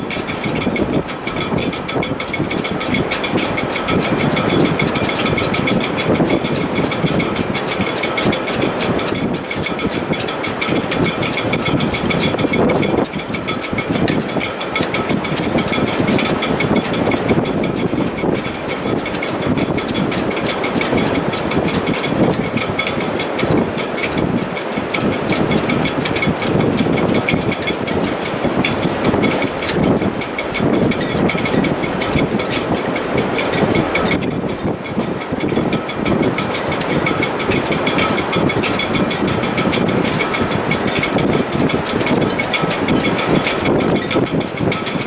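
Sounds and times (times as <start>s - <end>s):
rush of wind: 0.0s - 45.0s.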